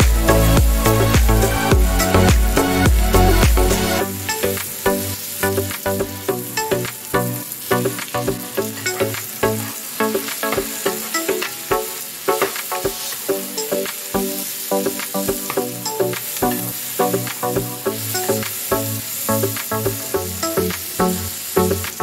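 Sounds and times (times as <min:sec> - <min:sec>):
background music with steady beat: 0:00.0 - 0:22.0
vegetables sizzling in hot oil: 0:04.2 - 0:22.0.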